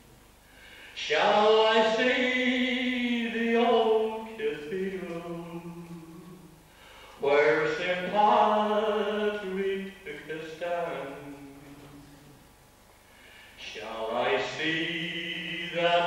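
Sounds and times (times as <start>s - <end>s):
man singing into a microphone: 1.0s - 6.5s, 7.2s - 12.4s, 13.6s - 16.0s.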